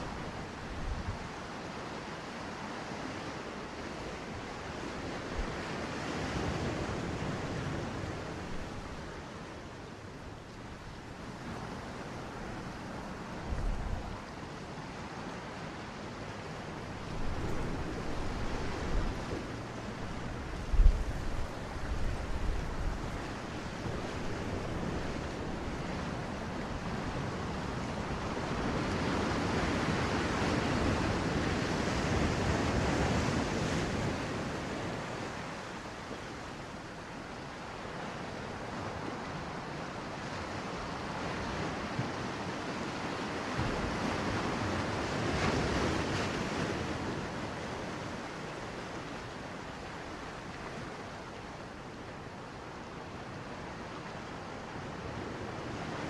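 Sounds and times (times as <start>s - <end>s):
surf washing over beach: 0.0s - 56.0s.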